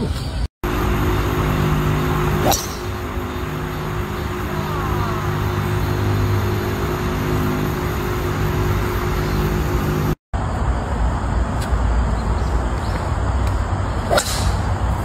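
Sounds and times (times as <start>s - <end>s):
low mechanical drone: 0.6s - 15.0s
low rumbling noise: 0.6s - 15.0s.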